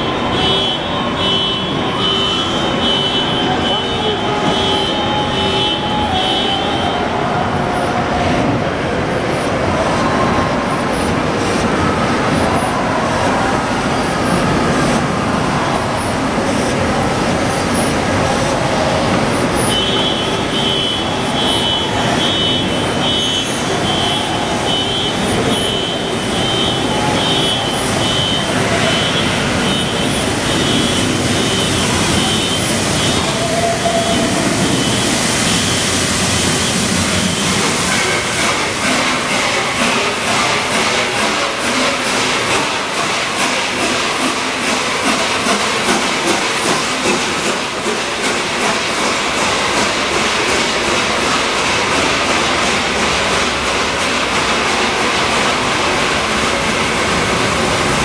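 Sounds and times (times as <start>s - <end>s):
squealing train brakes: 0.0s - 7.6s, 17.2s - 58.0s
train rolling rumble: 0.0s - 58.0s.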